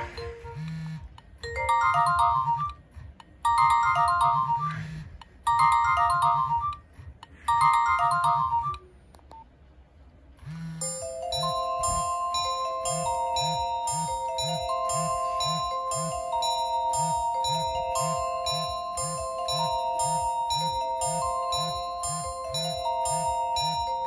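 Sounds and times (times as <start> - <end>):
mobile phone ringtone beeping: 0.0 - 8.9, 10.4 - 24.0
ringtone melody of held notes: 0.0 - 9.4, 10.4 - 24.0.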